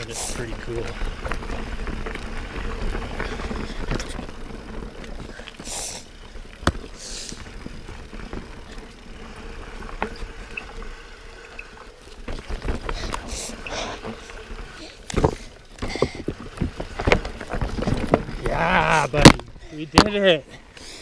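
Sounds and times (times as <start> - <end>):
bike knocks and rattles: 0.0 - 20.4
bike tyres rumbling over dirt: 0.0 - 21.0.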